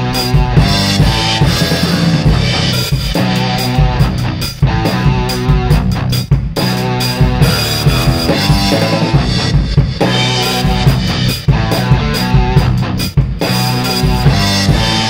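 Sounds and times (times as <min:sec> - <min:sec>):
drum kit played hard: 0:00.0 - 0:15.0
rock backing track: 0:00.0 - 0:15.0.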